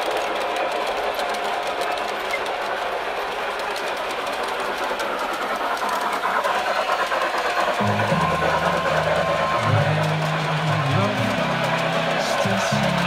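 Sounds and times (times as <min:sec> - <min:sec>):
model train motor whirring: 0:00.0 - 0:13.0
wheels clicking over rail joints: 0:00.0 - 0:13.0.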